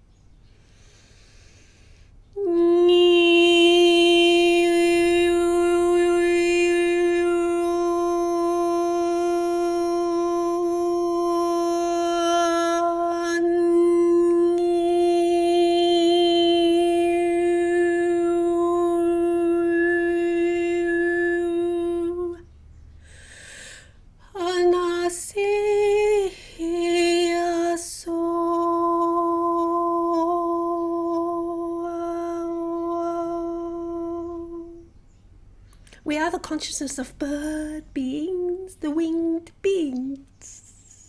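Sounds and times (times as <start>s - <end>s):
woman singing long held notes: 2.4s - 22.5s, 24.2s - 34.9s, 36.0s - 40.7s.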